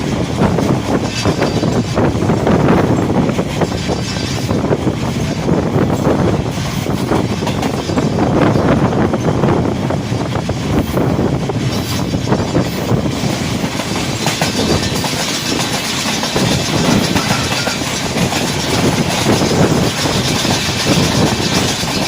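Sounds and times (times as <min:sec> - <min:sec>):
wheels clacking over rail joints: 0:00.0 - 0:09.4, 0:10.2 - 0:22.0
train wheels rumbling on rails: 0:00.0 - 0:22.0.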